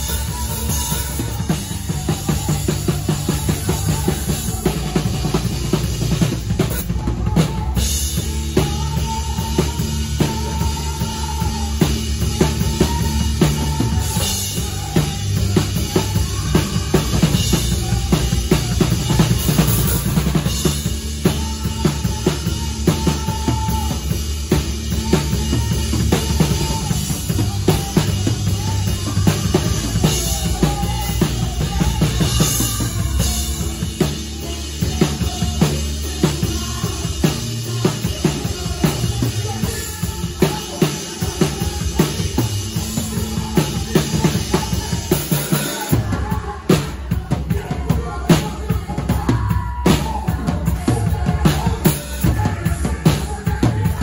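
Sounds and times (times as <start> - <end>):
band music: 0.0 - 54.0
drum kit beat: 0.0 - 54.0.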